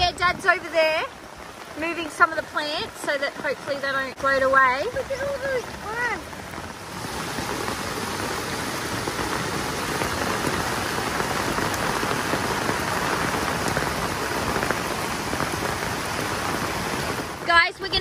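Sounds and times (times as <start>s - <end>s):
floodwater rushing: 0.0s - 18.0s
heavy rain hissing: 0.0s - 18.0s.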